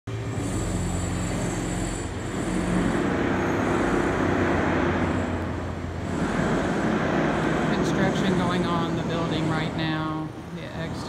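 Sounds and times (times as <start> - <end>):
low rumble with a hum: 0.1 - 11.0.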